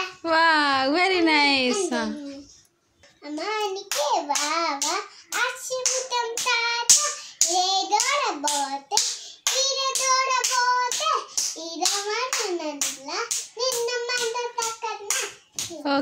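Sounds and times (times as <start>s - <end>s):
girl singing: 1.6s - 2.5s, 3.2s - 16.0s.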